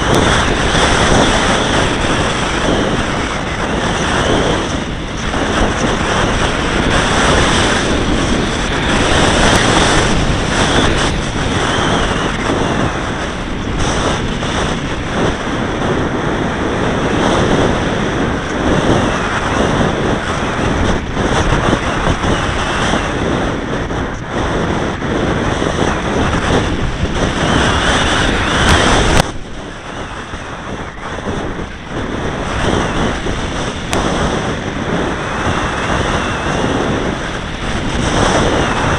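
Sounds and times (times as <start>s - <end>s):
model aircraft motor: 0.0s - 38.9s
wind buffeting microphone: 0.0s - 38.9s.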